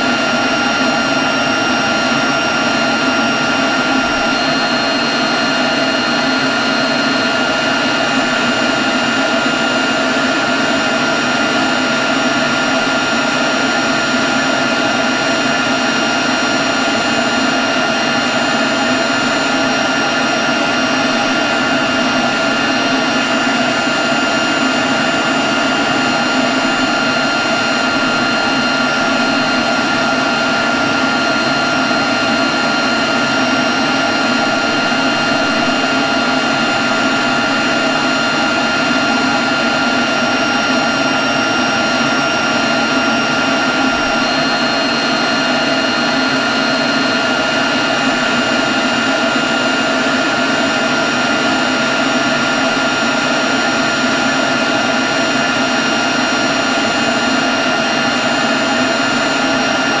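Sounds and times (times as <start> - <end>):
leaf blower running: 0.0 - 60.0.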